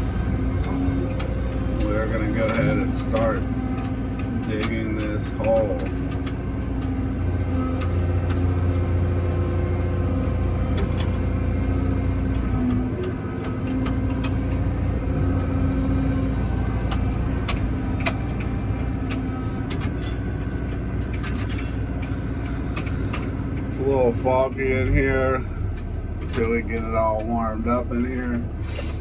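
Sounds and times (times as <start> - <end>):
excavator diesel engine running: 0.0 - 29.0
sharp clicks and knocks: 0.1 - 29.0.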